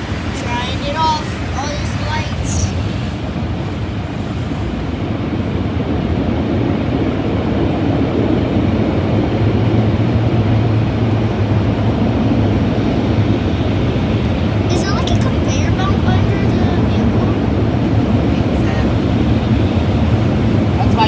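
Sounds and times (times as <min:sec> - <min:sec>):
car wash air blowers roaring: 0:00.0 - 0:21.0.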